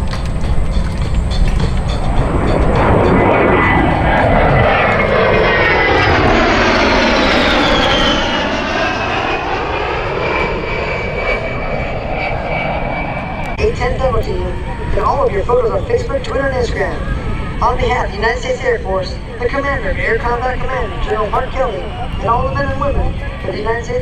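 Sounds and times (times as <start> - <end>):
jet passing with whine: 0.0 - 24.0.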